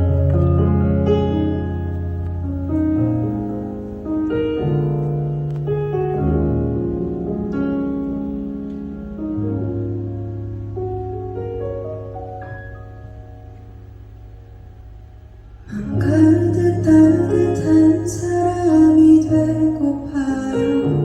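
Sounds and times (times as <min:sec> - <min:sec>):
piano playing slow chords: 0:00.0 - 0:21.0.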